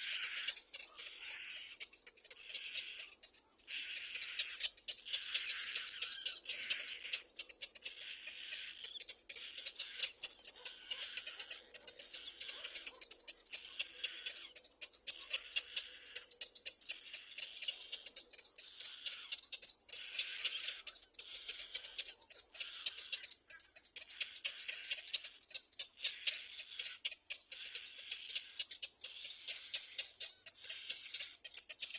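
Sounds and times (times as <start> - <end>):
chick calling high chitter: 0.0 - 31.9.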